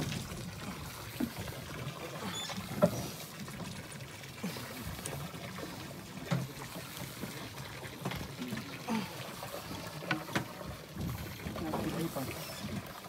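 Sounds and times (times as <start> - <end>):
water slapping against boat: 0.0 - 13.0.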